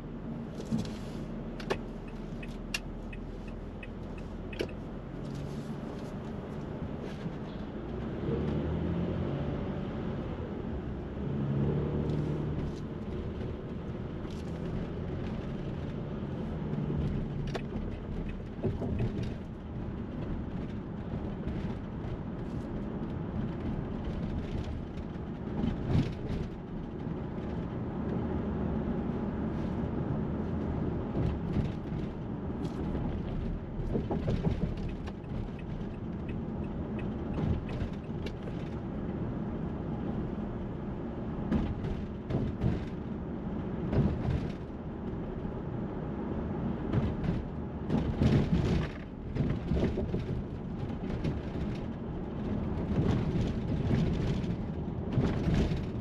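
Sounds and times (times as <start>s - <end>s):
low engine hum: 0.0s - 56.0s
vehicle engines and tyres: 0.0s - 56.0s.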